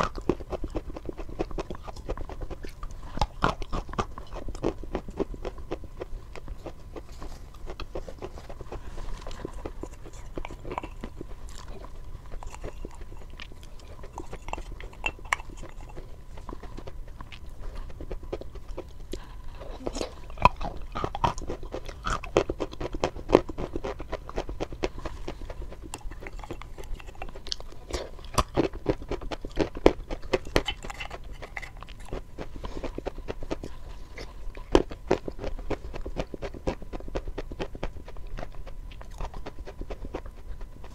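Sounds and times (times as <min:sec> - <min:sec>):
mouth smacks and chewing: 0:00.0 - 0:40.9.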